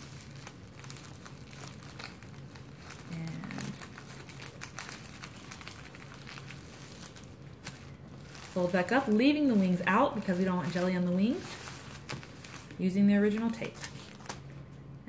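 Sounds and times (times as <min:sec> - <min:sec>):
plastic wrapper crinkling: 0:00.0 - 0:14.8.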